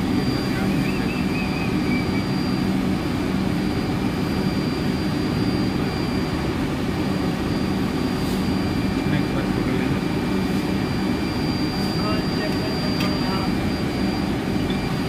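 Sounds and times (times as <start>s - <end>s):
cooling fans whooshing drone: 0.0s - 15.0s.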